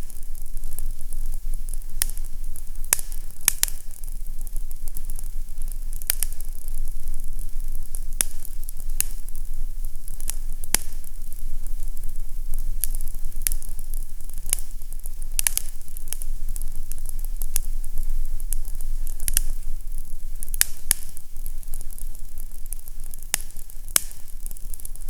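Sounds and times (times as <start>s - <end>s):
constant low rumble: 0.0s - 25.0s
fireplace crackling: 0.0s - 25.0s.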